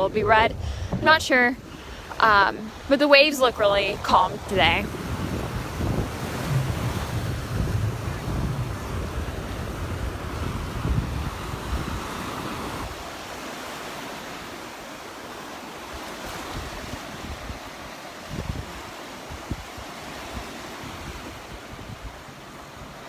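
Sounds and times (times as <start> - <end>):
wind rumbling on microphone: 0.0 - 14.6, 15.8 - 23.0
surf washing on beach: 0.0 - 23.0.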